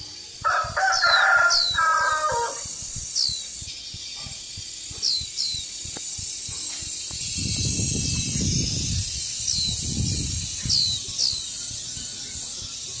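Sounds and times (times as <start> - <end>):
small bird chirping: 0.0 - 13.0
steady hiss: 0.0 - 13.0
wind buffeting microphone: 0.0 - 13.0.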